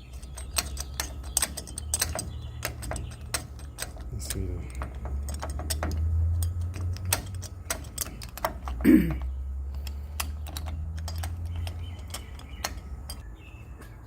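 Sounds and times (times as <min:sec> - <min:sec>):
lock parts clicking and tapping: 0:00.0 - 0:13.2.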